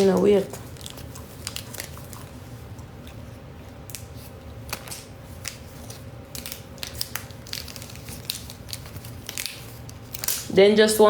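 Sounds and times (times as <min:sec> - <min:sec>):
crinkling rustles: 0:00.0 - 0:03.3, 0:03.9 - 0:10.5.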